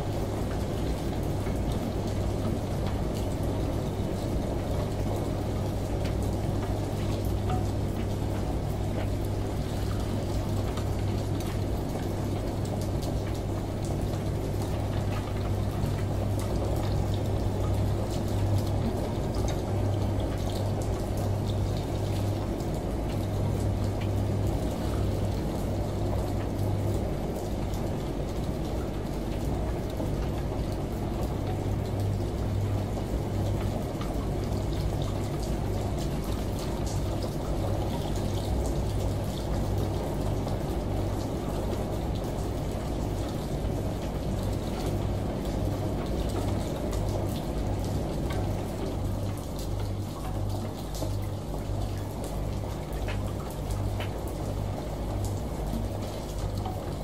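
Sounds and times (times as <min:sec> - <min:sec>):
washing machine motor hum: 0:00.0 - 0:57.0.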